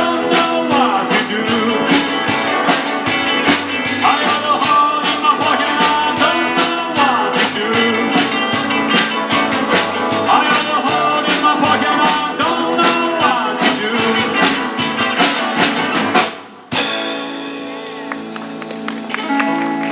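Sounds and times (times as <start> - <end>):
rock band music: 0.0 - 19.9.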